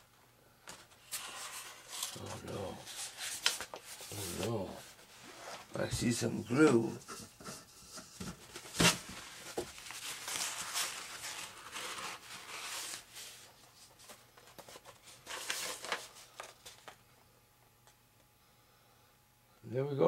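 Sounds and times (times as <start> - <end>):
paper tissue rustling: 0.9 - 17.0.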